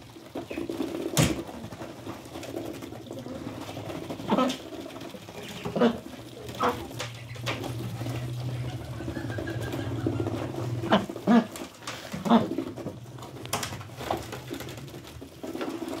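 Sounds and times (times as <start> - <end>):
ducks pecking at grain: 0.0 - 16.0.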